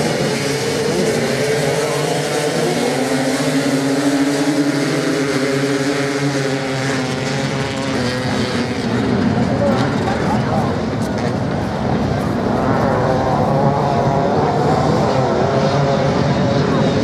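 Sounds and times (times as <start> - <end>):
motocross bike engines racing: 0.0 - 17.0.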